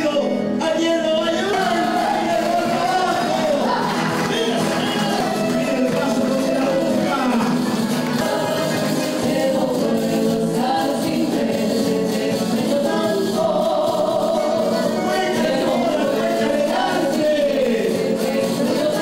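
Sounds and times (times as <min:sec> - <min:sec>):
guitars playing: 0:00.0 - 0:19.0
people singing together: 0:00.7 - 0:19.0.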